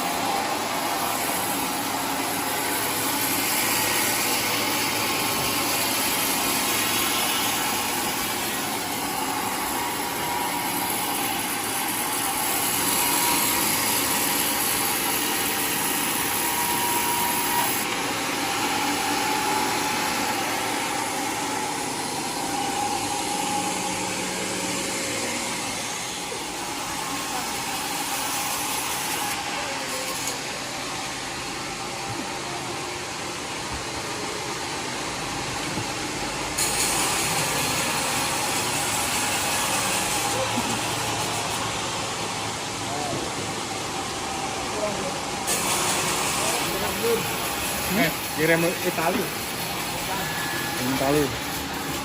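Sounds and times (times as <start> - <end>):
sawmill cutting log: 0.0 - 52.0.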